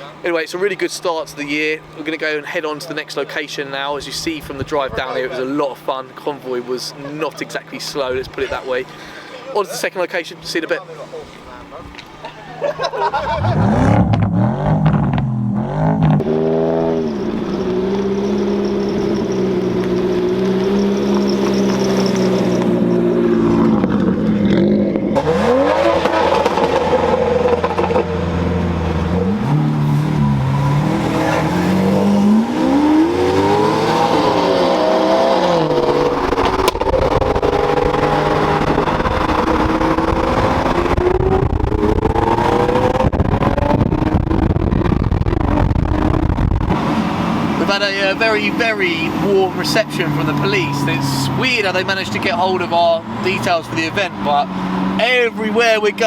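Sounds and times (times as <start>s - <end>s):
car engines revving: 10.4s - 56.0s.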